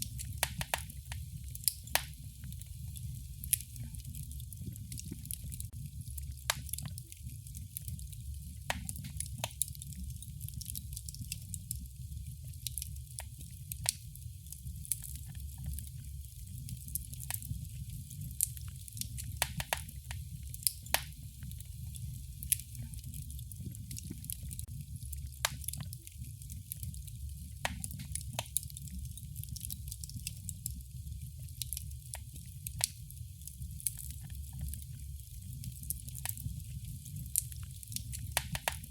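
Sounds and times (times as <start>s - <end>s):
fire crackling and popping: 0.0s - 38.9s
flames rumbling and hissing: 0.0s - 38.9s.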